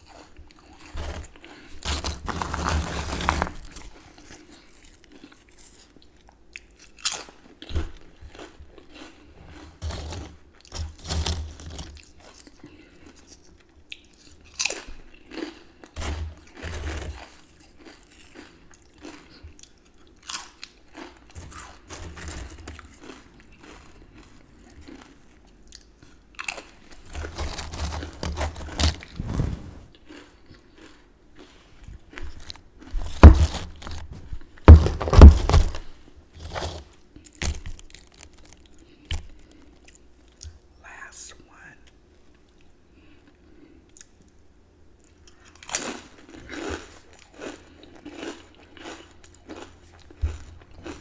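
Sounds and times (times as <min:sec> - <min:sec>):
crunching potato chips: 0:00.0 - 0:29.2, 0:29.9 - 0:40.4, 0:45.0 - 0:51.0.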